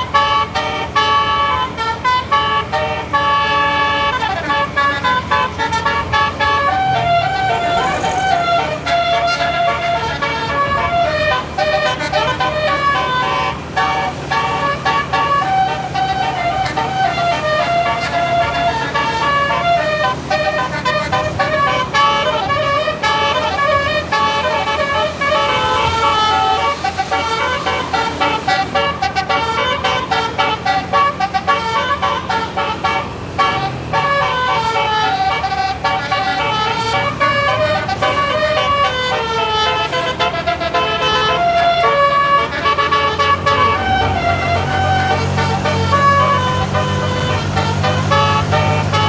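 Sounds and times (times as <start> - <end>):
bus engine running: 0.0 - 49.0
multi-tone air horn tune: 0.0 - 49.0.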